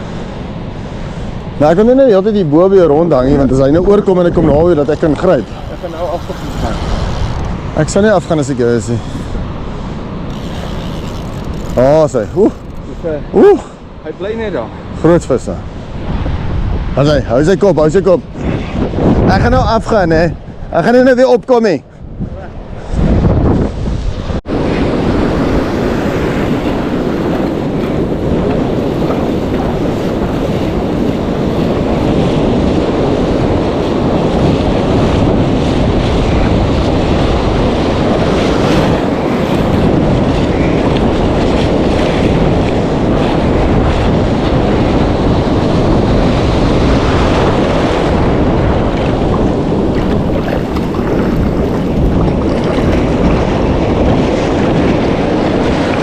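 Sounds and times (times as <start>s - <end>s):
surf breaking on shore: 0.0s - 21.8s, 22.4s - 56.0s
wind buffeting microphone: 0.0s - 56.0s.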